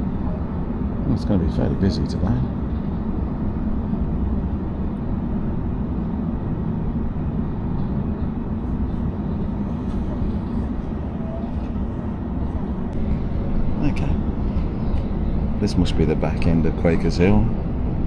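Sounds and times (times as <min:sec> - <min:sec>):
train rumbling from inside carriage: 0:00.0 - 0:18.0.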